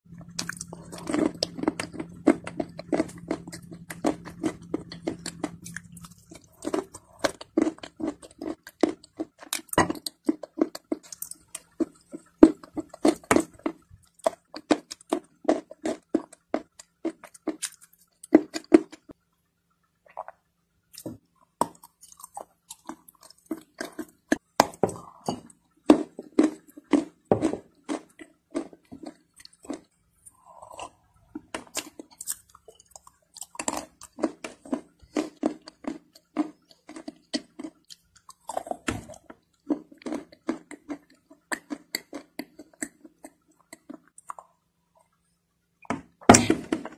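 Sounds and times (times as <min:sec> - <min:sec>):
chewing crunchy clay: 0:00.1 - 0:19.2, 0:20.1 - 0:44.6.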